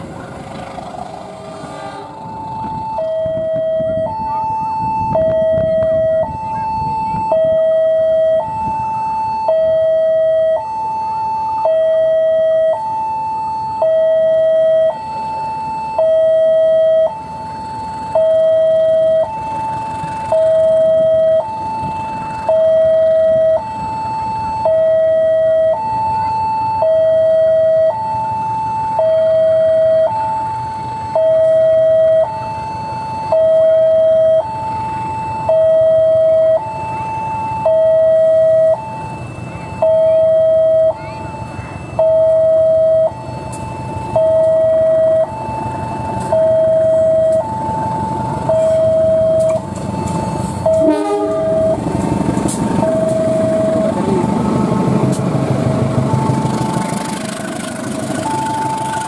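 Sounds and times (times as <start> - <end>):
diesel locomotive rumble: 0.0 - 59.0
two-tone crossing alarm chime: 2.3 - 52.0, 52.6 - 57.3, 57.9 - 59.0.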